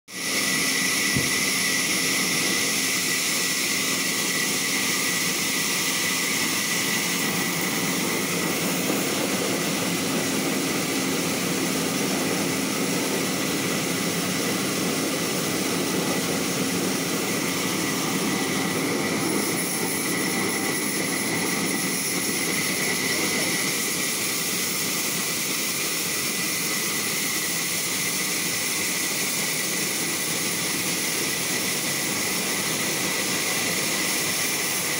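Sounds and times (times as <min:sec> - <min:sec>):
band saw cutting log: 0:00.1 - 0:34.9.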